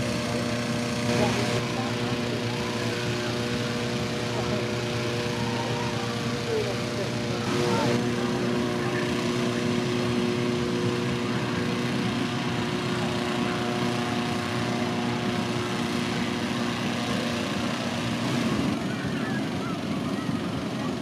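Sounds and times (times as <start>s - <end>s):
rushing air from fan: 0.0s - 21.0s
small engine humming: 0.0s - 21.0s.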